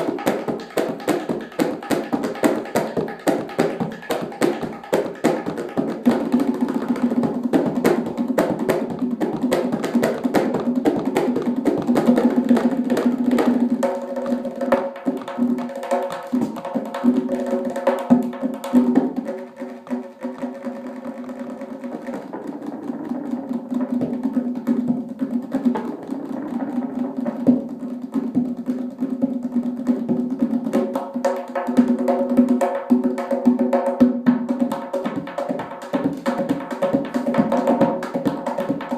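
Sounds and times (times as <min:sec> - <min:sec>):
goblet drum played solo: 0:00.0 - 0:38.9.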